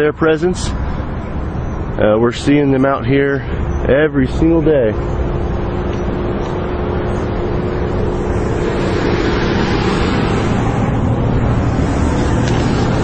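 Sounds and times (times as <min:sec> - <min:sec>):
traffic roar: 0:00.0 - 0:13.0
vehicle passing: 0:00.6 - 0:13.0.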